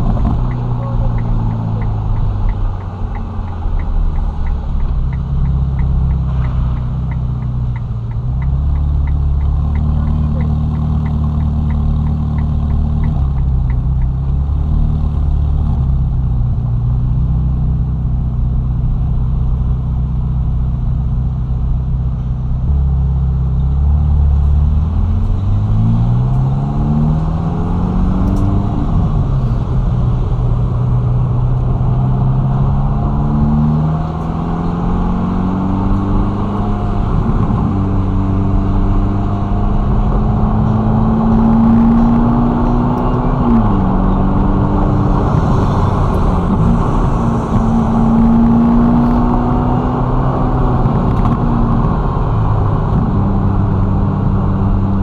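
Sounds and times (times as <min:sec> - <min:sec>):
car engine revving: 0:00.0 - 0:17.2, 0:22.8 - 0:55.0.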